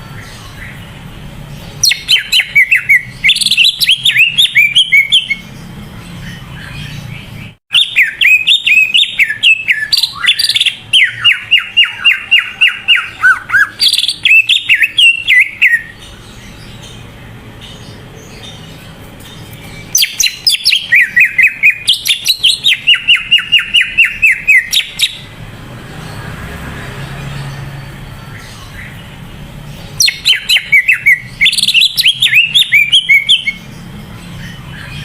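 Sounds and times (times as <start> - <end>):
bird singing whistled chirping notes: 1.6 - 17.0, 17.7 - 25.3, 27.4 - 35.0.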